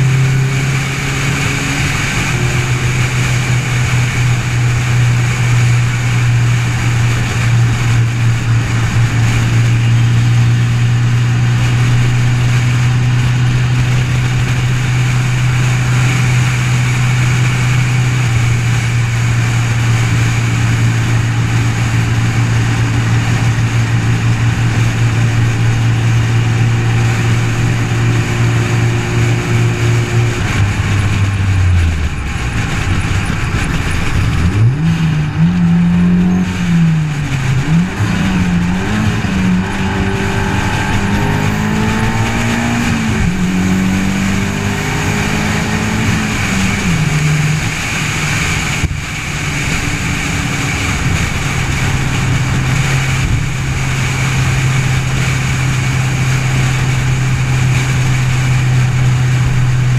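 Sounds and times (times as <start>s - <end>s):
car engine revving: 0.0s - 59.9s
wind and tyre noise: 0.0s - 59.9s.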